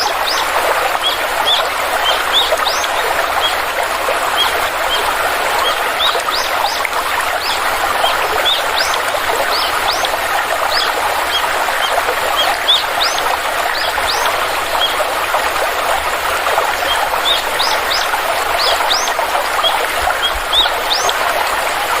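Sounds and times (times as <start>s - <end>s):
small birds chirping: 0.0s - 15.3s, 16.0s - 21.3s
stream rushing: 0.0s - 22.0s.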